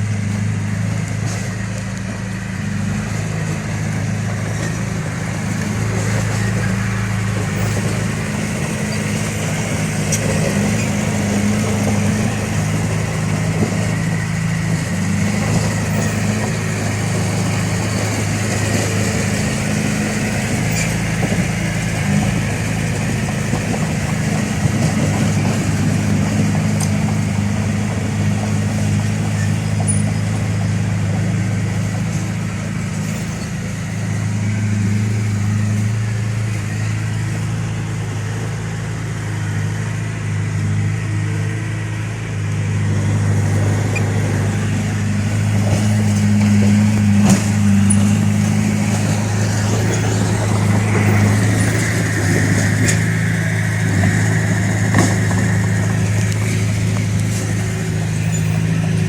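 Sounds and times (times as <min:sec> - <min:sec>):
bulldozer diesel engine: 0:00.0 - 0:59.0
high whine: 0:00.0 - 0:59.0.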